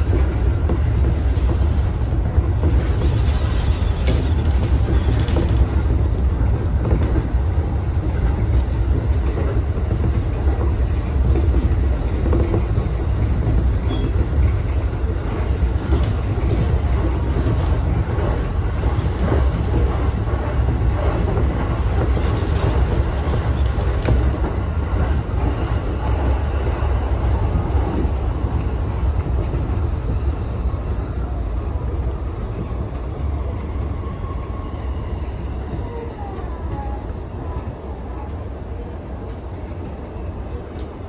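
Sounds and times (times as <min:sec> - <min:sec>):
low rumble of wheels on rail: 0:00.0 - 0:41.0.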